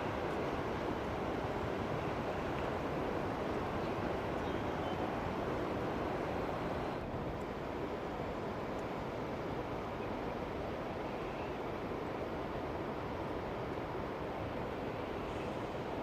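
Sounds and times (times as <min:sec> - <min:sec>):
rushing wind and water: 0:00.0 - 0:16.0.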